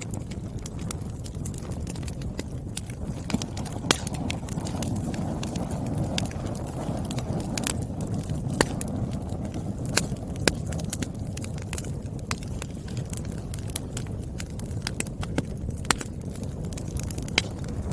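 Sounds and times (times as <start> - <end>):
firewood crackling and popping: 0.0 - 17.9
low fire rumble: 0.0 - 17.9.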